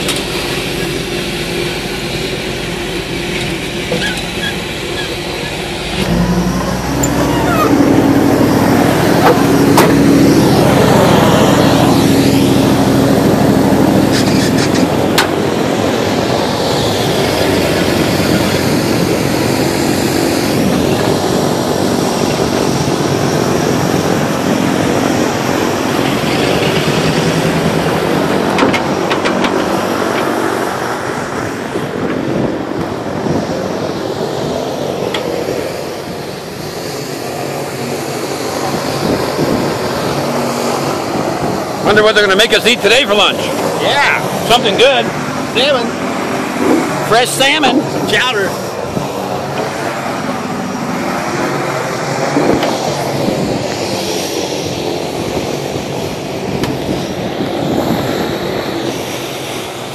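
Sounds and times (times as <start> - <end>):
engines running: 0.0 - 59.9.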